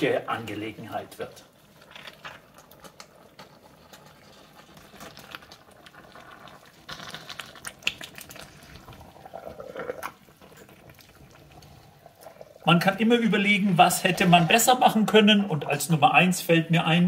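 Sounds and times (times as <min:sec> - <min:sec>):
stew bubbling in a pot: 0:00.0 - 0:16.3.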